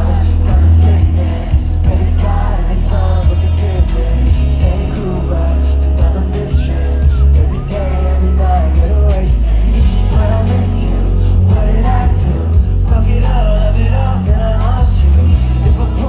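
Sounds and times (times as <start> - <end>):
heavy bass: 0.0 - 16.0
live pop concert music: 0.0 - 16.0
person singing melody: 0.0 - 16.0.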